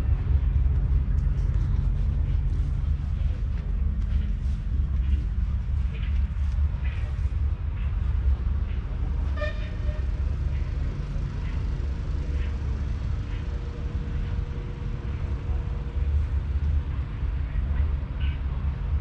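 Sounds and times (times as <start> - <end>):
faint engine hum: 0.0 - 19.0
wind buffeting microphone: 0.0 - 19.0.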